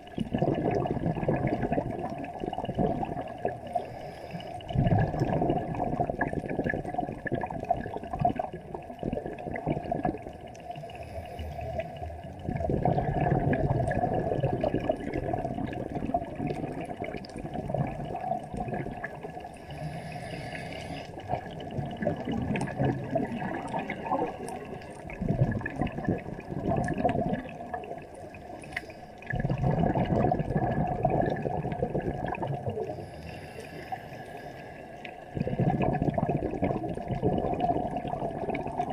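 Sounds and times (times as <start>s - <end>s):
muffled underwater rushing water: 0.0s - 38.9s.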